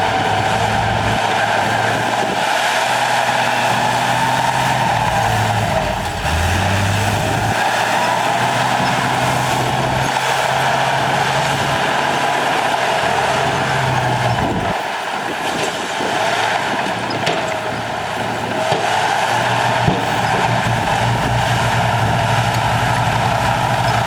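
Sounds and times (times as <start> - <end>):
diesel machinery engine running: 0.0 - 24.0
mechanical rush: 0.0 - 24.0.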